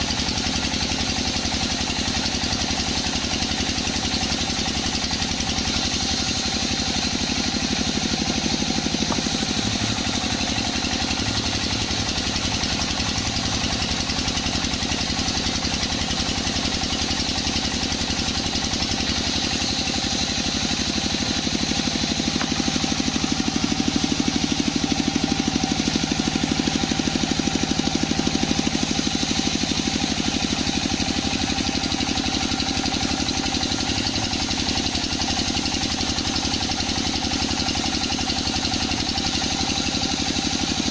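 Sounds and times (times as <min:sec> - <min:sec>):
band saw machinery humming: 0:00.0 - 0:40.9.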